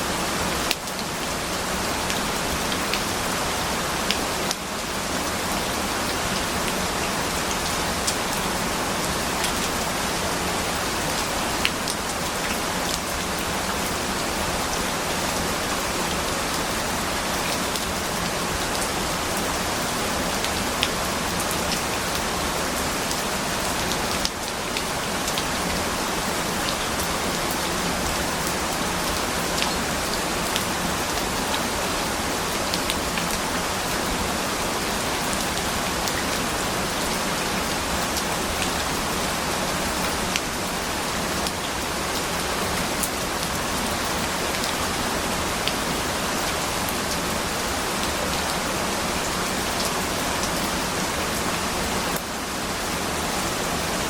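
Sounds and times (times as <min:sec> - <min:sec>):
dense rainfall: 0:00.0 - 0:54.0
sharp ticks of raindrops: 0:00.4 - 0:51.5.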